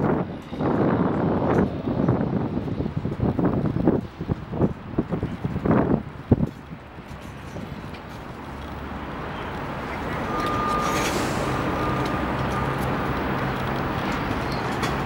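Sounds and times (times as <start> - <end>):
engine rumbling: 0.0 - 15.0
street noise: 0.0 - 15.0.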